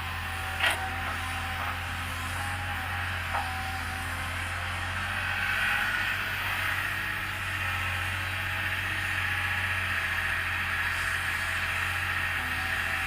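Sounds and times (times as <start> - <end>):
diesel engine droning with whine: 0.0 - 13.0.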